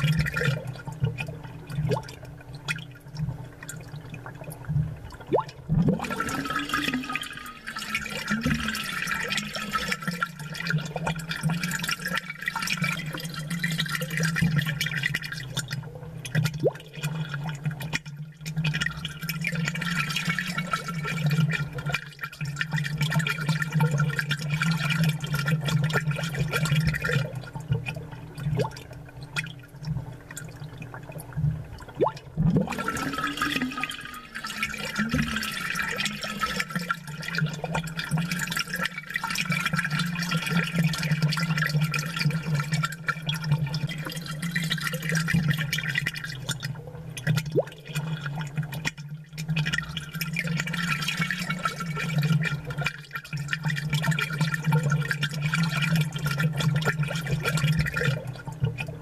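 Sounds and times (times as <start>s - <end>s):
aquarium water bubbling: 0.0s - 59.0s.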